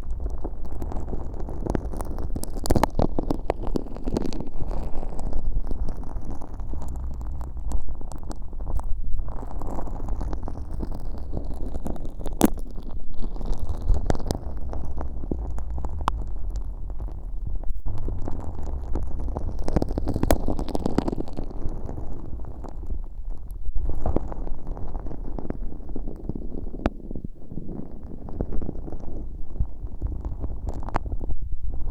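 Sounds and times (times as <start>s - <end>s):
sharp crackles and pops: 0.0s - 31.9s.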